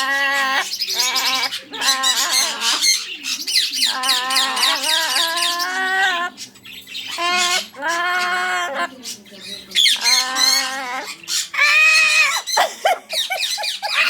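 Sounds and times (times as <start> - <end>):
parrot squawking and chirping: 0.0 - 14.0.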